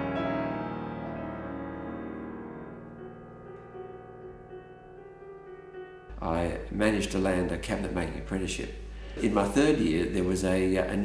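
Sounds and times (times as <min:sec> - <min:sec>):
solo piano music: 0:00.0 - 0:10.2.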